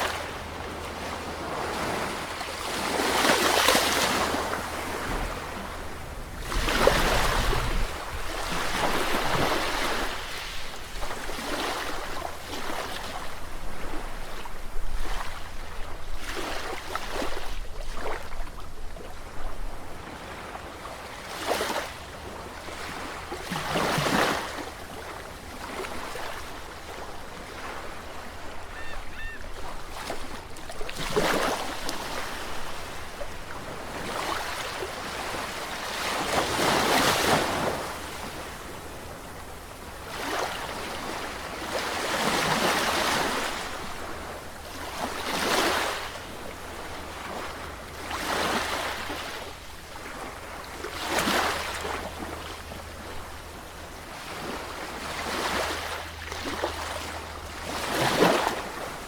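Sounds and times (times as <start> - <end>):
sea waves breaking ashore: 0.0 - 18.6, 20.0 - 59.0.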